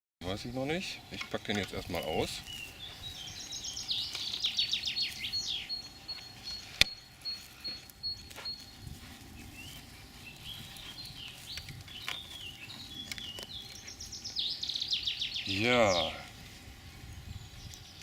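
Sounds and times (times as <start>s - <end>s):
songbirds singing: 0.2s - 18.0s.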